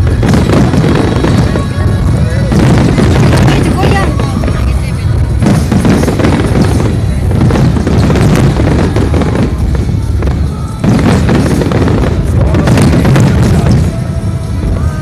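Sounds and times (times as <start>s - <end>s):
fireworks booming: 0.0s - 15.0s
music playing: 0.0s - 15.0s.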